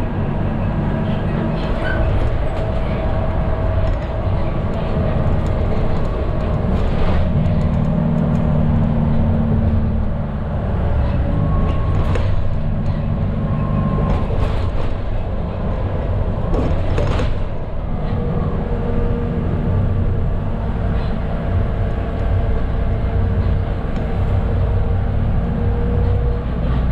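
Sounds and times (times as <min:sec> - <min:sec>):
bus engine droning: 0:00.0 - 0:26.9
road and tyre noise: 0:00.0 - 0:26.9.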